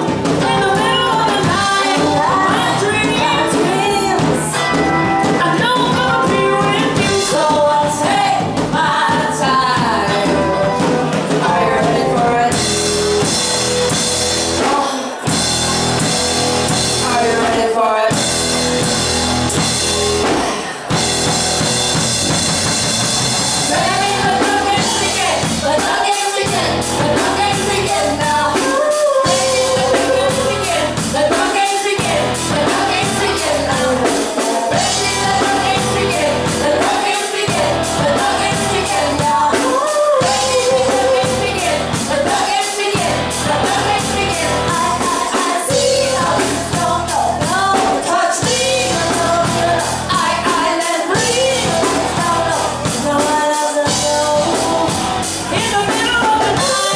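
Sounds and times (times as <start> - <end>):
person singing: 0.0 - 14.0, 23.6 - 56.9
drums steady beat: 0.0 - 56.9
rock band playing: 0.0 - 56.9.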